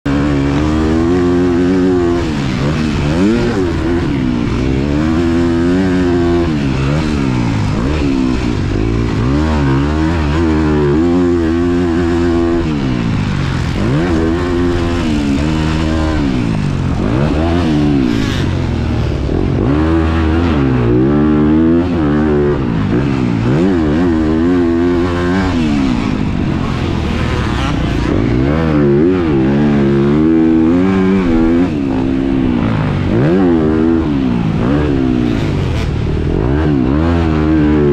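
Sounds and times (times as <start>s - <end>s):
motocross bike engine revving: 0.1s - 37.9s.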